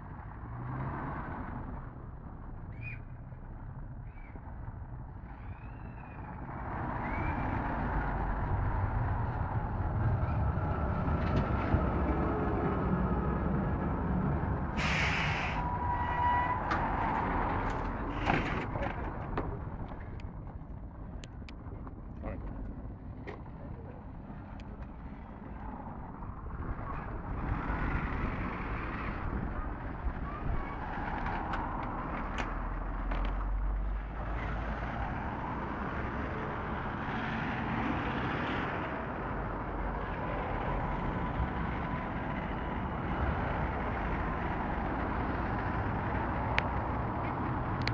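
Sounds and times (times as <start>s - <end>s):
cars passing: 6.2s - 47.9s
tram running on rails: 7.4s - 34.7s, 35.5s - 47.9s.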